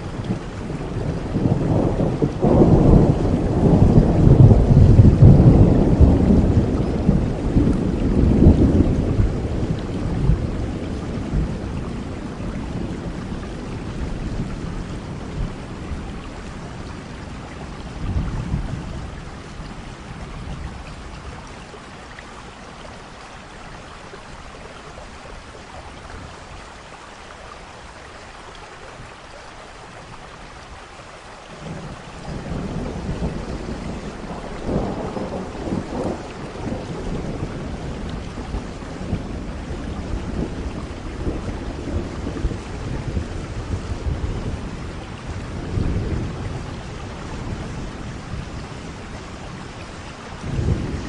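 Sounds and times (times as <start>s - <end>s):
rolling thunder rumble: 0.0s - 21.6s, 31.5s - 51.0s
steady rain: 0.0s - 51.0s.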